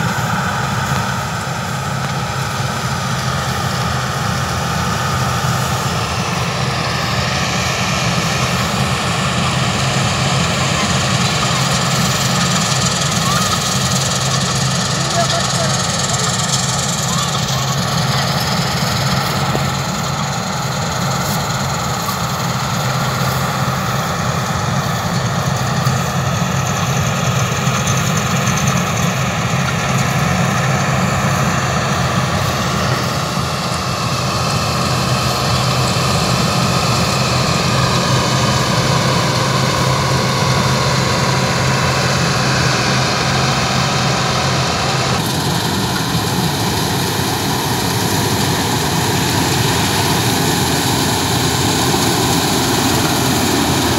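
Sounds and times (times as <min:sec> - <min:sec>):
combine harvester droning: 0:00.0 - 0:53.9.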